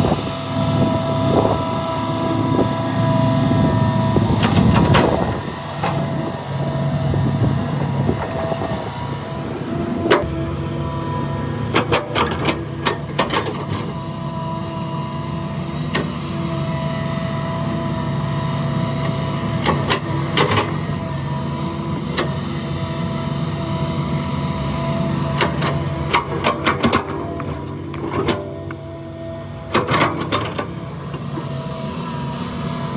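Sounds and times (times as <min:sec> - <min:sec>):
diesel machinery engine hum: 0:00.0 - 0:32.9.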